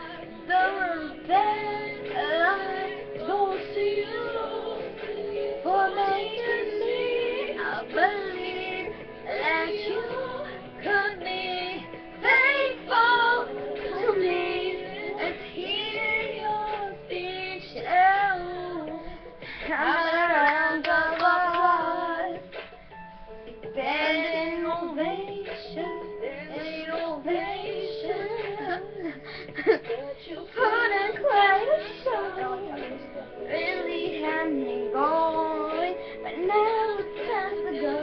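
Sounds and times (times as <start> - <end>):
recorded backing music: 0.0 - 38.0
young women singing pop song: 0.0 - 38.0.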